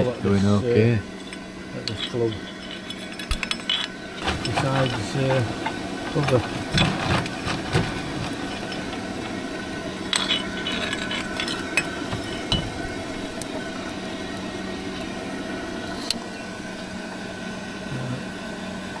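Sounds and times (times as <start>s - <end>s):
electric blower motor humming: 0.0s - 19.0s.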